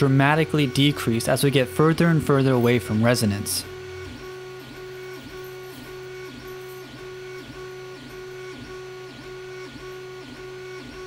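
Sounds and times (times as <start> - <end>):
steady low hum: 0.0 - 11.0
stepper motor whining: 0.0 - 11.0.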